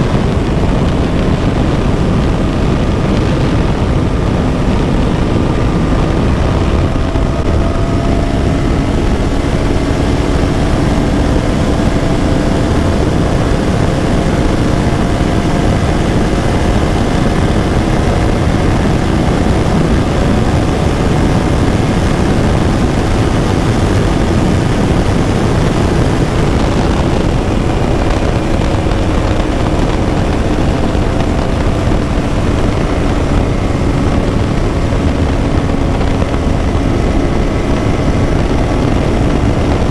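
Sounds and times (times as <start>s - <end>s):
motorcycle engine cruising: 0.0s - 39.9s
rushing wind noise: 0.0s - 39.9s.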